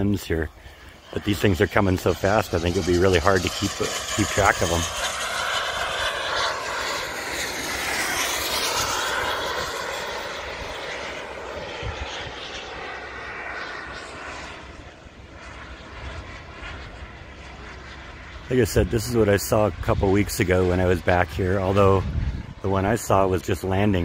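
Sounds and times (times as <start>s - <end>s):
model jet engine whine: 0.0s - 24.0s.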